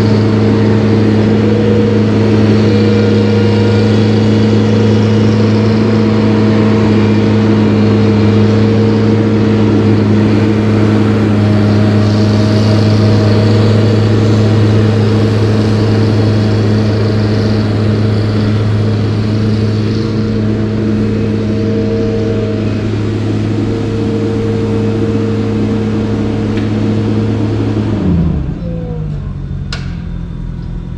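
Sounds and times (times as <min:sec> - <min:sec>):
motor humming: 0:00.0 - 0:30.9.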